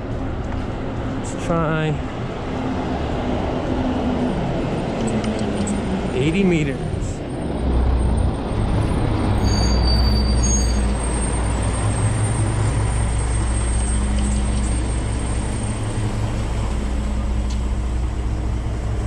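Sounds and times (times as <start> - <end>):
large vehicle engine drone: 0.0 - 19.0
road noise: 0.0 - 19.0.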